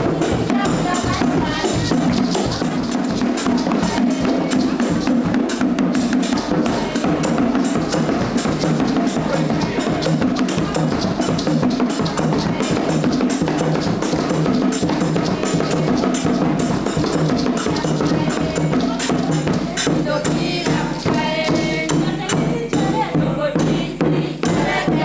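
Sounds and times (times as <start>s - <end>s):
music with busy percussion beat: 0.0s - 25.0s.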